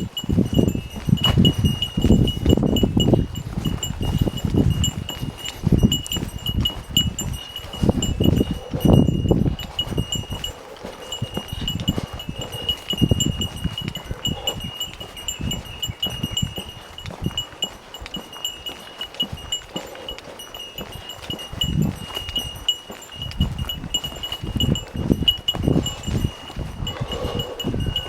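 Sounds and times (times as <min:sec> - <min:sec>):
small bell jingling: 0:00.0 - 0:28.0.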